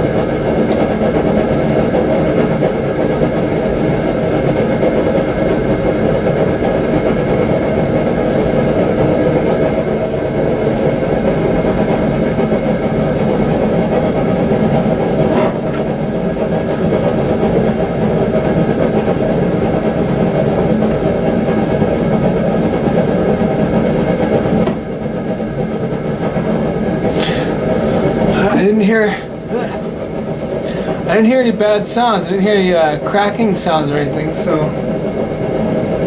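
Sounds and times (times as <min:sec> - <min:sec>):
forge droning: 0:00.0 - 0:36.0.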